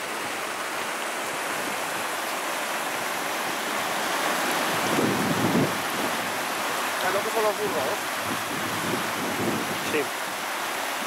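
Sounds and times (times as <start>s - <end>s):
river rushing in rapids: 0.0s - 11.0s.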